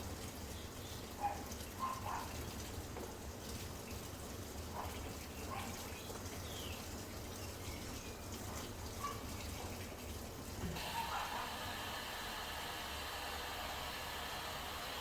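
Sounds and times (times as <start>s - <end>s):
faint drips: 0.0s - 12.1s
washing machine low hum: 0.0s - 15.0s
water trickling and splashing: 0.0s - 15.0s.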